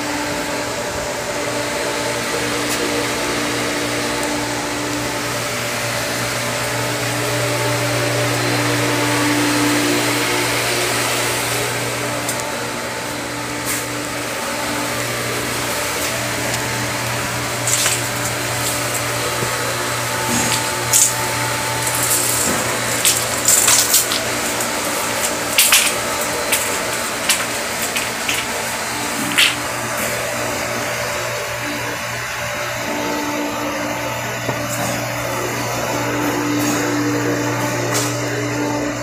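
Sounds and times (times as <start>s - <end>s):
power tool motor running: 0.0s - 39.0s.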